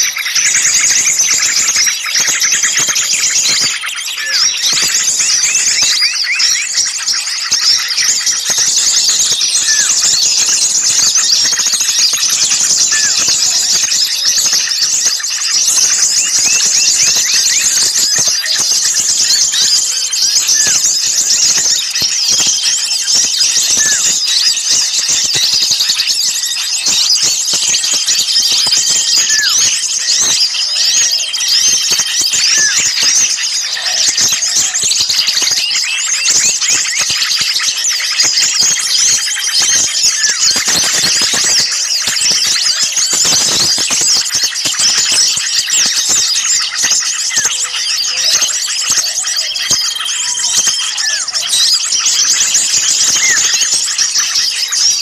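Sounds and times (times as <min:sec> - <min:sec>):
songbirds chattering: 0:00.0 - 0:55.0.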